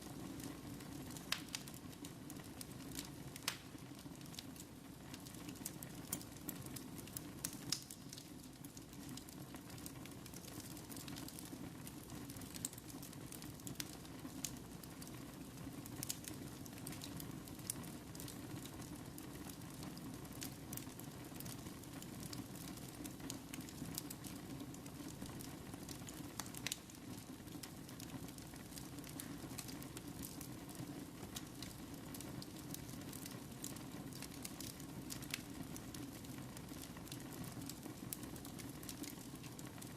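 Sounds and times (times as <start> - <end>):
fire rumbling: 0.0 - 39.9
wood fire crackling and popping: 0.0 - 39.9.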